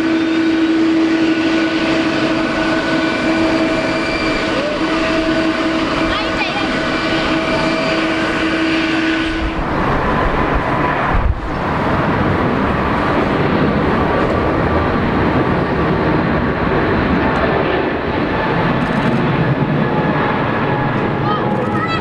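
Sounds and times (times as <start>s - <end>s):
jet engines whining: 0.0s - 22.0s
jet noise rushing: 0.0s - 22.0s.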